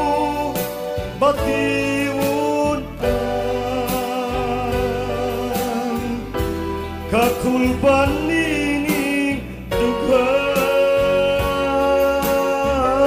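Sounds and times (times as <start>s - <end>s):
instrumental backing: 0.0s - 13.0s
man singing a ballad: 0.0s - 13.0s.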